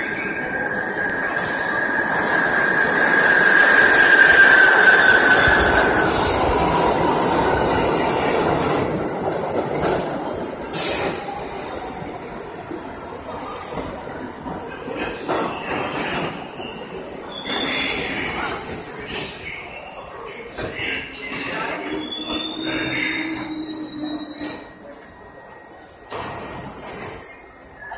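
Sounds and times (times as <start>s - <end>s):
train cars rumbling and clattering: 0.0s - 27.6s
subway wheels squealing: 0.0s - 27.9s.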